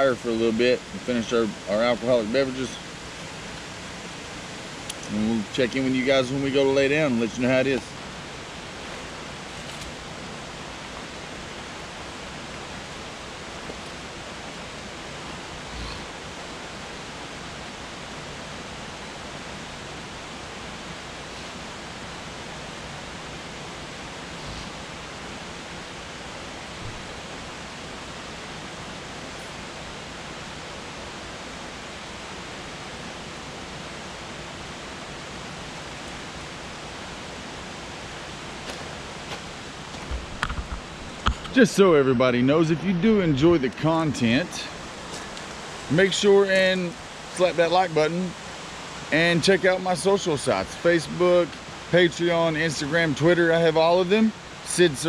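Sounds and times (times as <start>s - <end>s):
creek rushing over stones: 0.0s - 55.0s.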